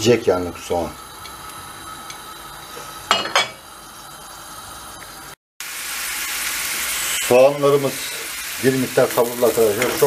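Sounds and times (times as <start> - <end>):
onion sizzling in frying pan: 0.1 - 10.0.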